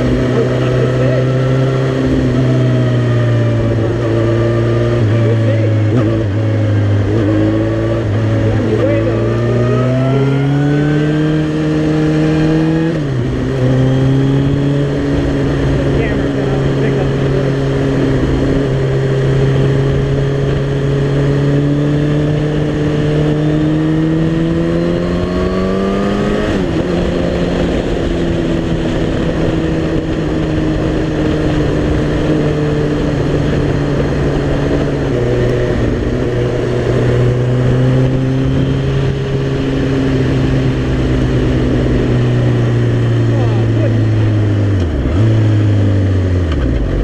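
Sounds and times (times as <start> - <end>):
motorcycle engine accelerating: 0.0 - 47.0
wind noise: 0.0 - 47.0.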